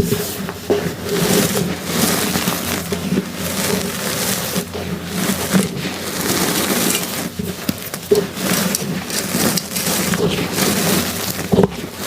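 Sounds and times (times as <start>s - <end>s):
chalk blocks crunching: 0.0s - 12.0s.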